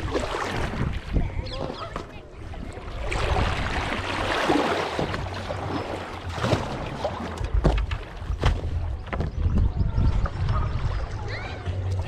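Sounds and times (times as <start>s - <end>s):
paddle splashing in water: 0.0s - 12.0s
wind rumble on microphone: 0.0s - 12.0s.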